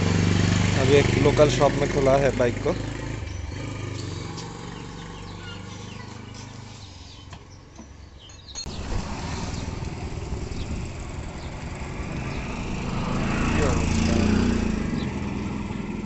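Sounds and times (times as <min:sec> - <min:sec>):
motorcycle engine idling: 0:00.0 - 0:08.0, 0:09.6 - 0:16.0
birds chirping: 0:00.4 - 0:16.0.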